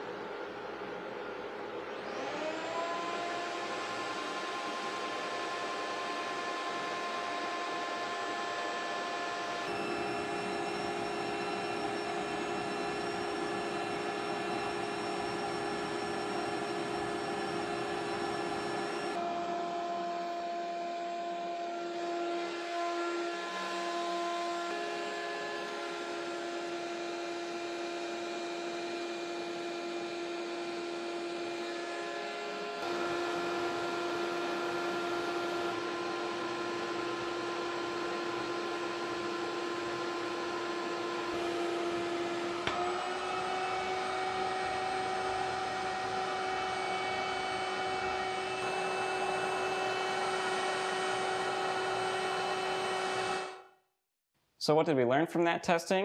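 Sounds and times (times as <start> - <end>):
shop-vac motor whine: 0.0 - 53.7.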